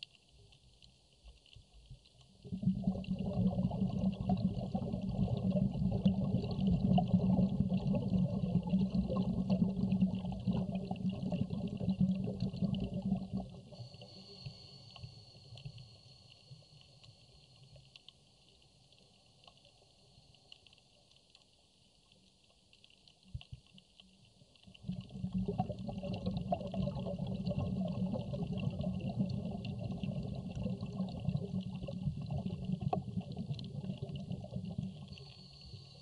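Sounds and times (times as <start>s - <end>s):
underwater bubbles gurgling: 0.0s - 14.5s, 20.5s - 36.0s
faint crackling hiss: 0.0s - 36.0s.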